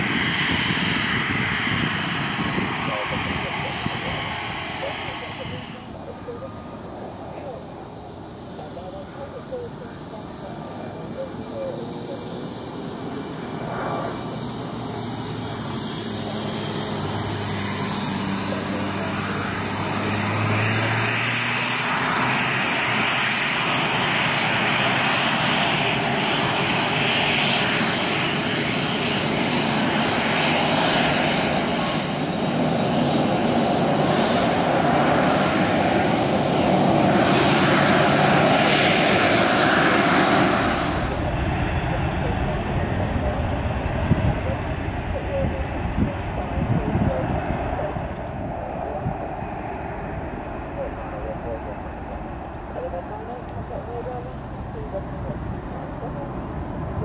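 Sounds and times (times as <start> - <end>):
aircraft engines: 0.0 - 57.0.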